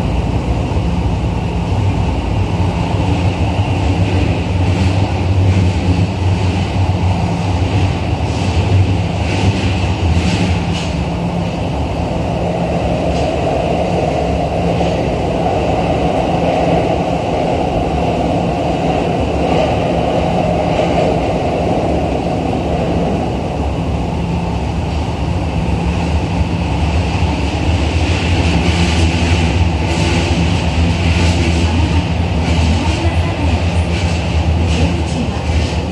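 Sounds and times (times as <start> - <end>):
subway train wheels rumbling: 0.0 - 35.9.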